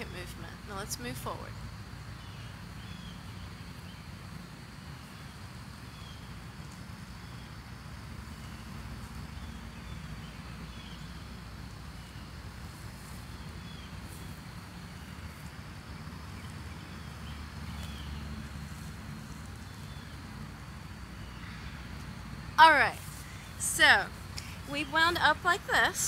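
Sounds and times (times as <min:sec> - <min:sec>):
faint high-pitched hum: 0:00.0 - 0:26.0.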